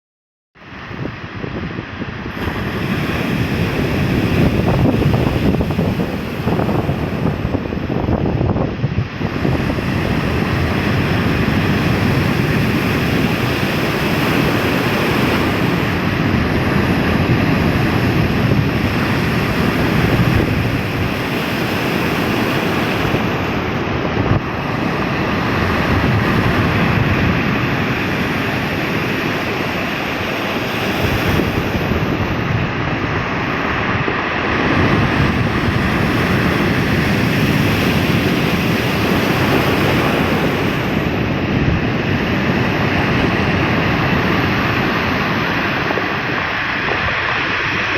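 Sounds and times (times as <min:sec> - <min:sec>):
ocean waves breaking: 0:00.6 - 0:47.9
wind buffeting microphone: 0:00.6 - 0:47.9.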